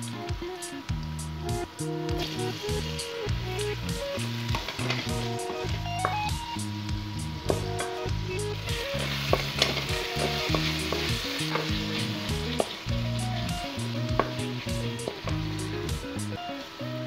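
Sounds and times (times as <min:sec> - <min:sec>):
background music: 0:00.0 - 0:17.0
vegetables sizzling in hot oil: 0:00.0 - 0:17.0.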